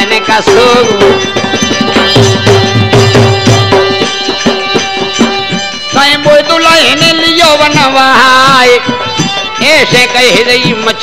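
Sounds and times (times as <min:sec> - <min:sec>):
hand drum quick rhythm: 0:00.0 - 0:11.0.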